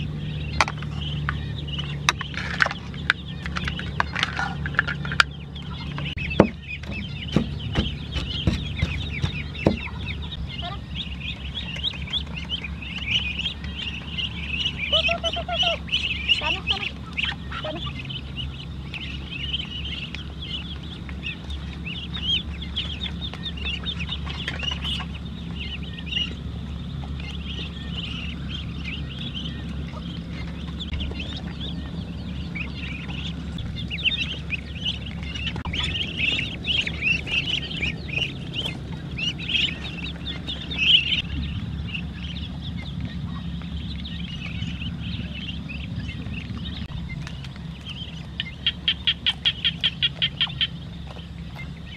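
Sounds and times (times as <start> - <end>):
ducklings peeping: 0.0 - 51.9.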